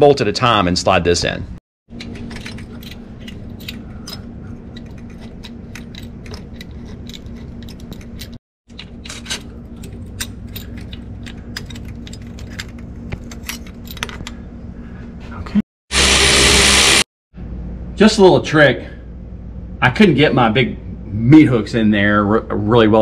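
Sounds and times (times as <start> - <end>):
steady low hum: 0.2 - 23.0.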